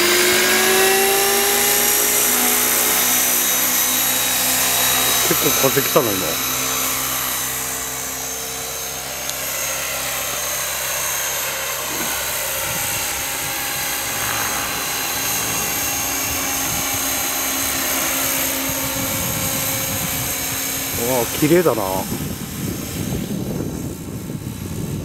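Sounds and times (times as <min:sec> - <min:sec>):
model helicopter rotor whine: 0:00.0 - 0:25.0.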